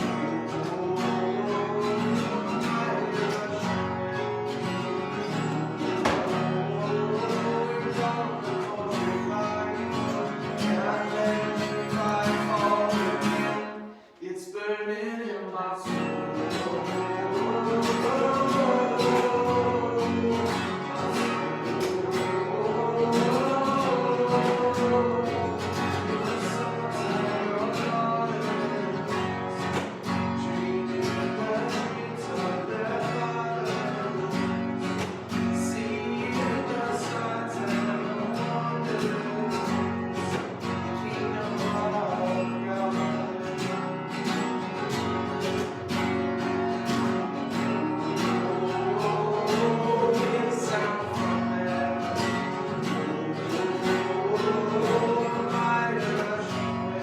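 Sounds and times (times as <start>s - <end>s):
acoustic guitar strumming: 0.0s - 57.0s
voices singing: 0.0s - 57.0s.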